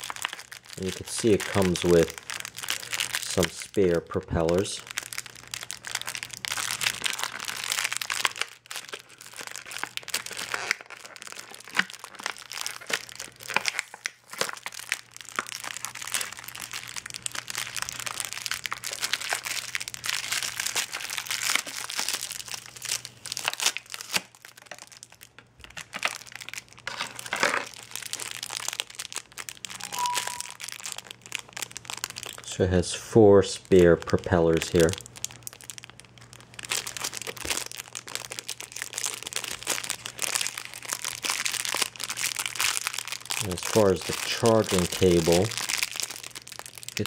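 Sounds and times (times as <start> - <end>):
plastic packaging crinkling: 0.0 - 47.0.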